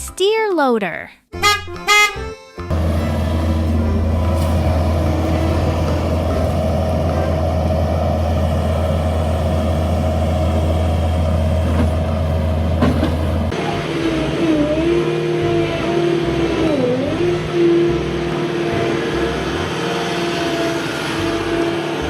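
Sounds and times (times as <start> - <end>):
heavy machine engine humming: 2.7 - 22.0.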